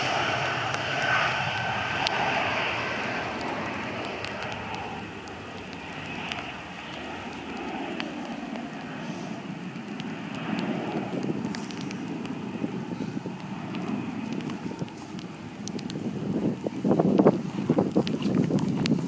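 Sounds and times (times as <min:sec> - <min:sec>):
light rain: 0:00.0 - 0:17.8
sharp raindrop ticks: 0:00.0 - 0:19.0
wind buffeting microphone: 0:00.0 - 0:19.0.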